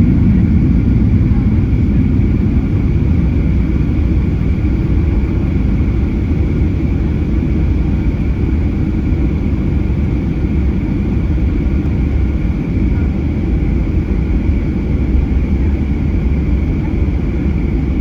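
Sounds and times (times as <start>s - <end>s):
aircraft cabin engine rumble: 0.0s - 18.0s.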